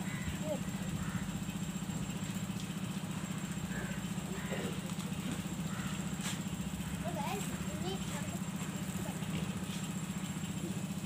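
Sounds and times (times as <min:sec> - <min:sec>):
low fluttering motor drone: 0:00.0 - 0:11.0.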